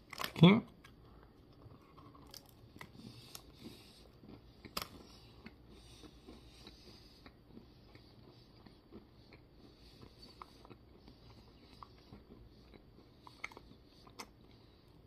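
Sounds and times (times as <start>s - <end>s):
chewing with mouth clicks: 0.1s - 15.0s.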